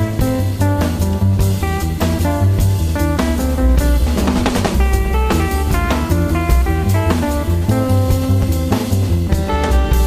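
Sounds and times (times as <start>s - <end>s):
rock song with drums bass guitar: 0.0s - 10.0s.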